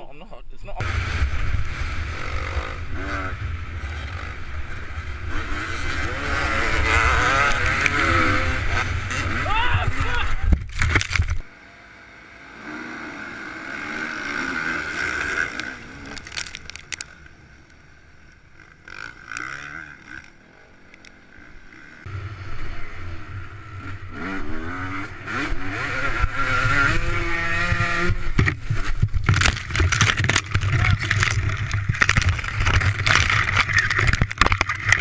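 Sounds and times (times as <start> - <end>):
motocross bike engines revving: 0.0 - 35.0.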